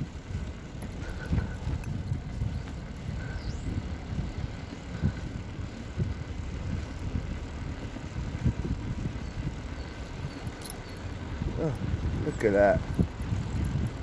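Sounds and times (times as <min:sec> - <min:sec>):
low thumps from road bumps: 0:00.0 - 0:14.0
tyres rumbling on tarmac: 0:00.0 - 0:14.0
wind on microphone: 0:01.0 - 0:14.0.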